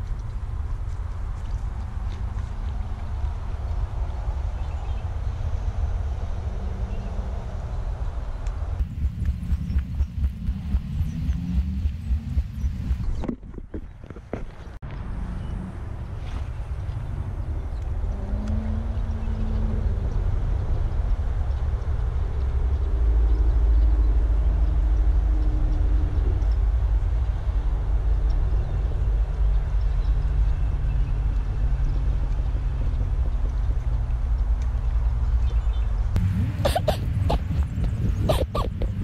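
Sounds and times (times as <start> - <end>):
faint engine drone: 0.0 - 13.6, 14.9 - 39.0
low rumble of passing traffic: 0.0 - 39.0.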